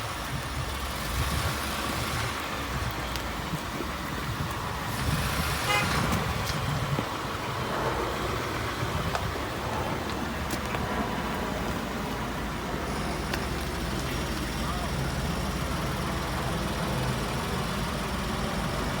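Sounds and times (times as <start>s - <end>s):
truck engine and road noise: 0.0s - 19.0s.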